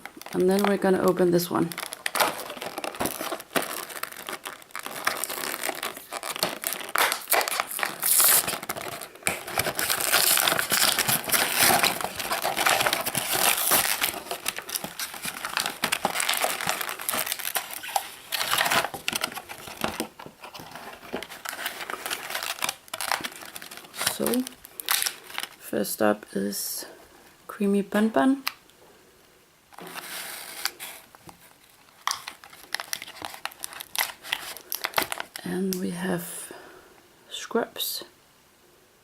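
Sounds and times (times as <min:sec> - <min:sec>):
plastic packaging crinkling: 0:00.0 - 0:25.7, 0:29.7 - 0:35.8.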